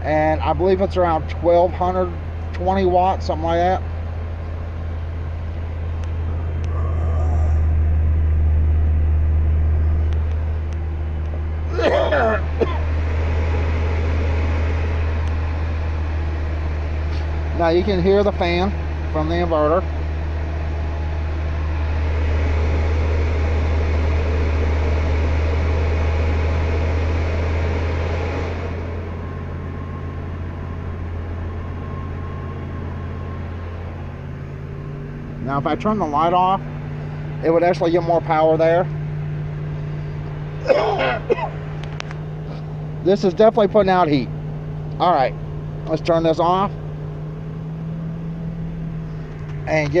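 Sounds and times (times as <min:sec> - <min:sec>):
inverter cooling fan running: 0:00.0 - 0:50.0
van engine droning: 0:00.0 - 0:50.0.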